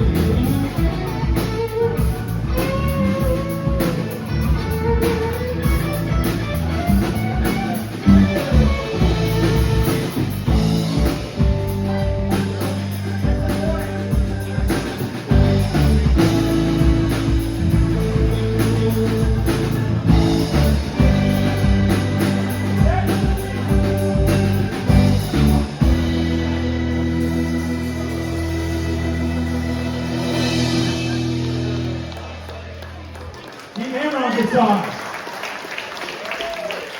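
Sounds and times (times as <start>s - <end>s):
electric guitar lines: 0.0s - 32.7s
bass guitar: 0.0s - 33.5s
drums: 0.0s - 33.7s.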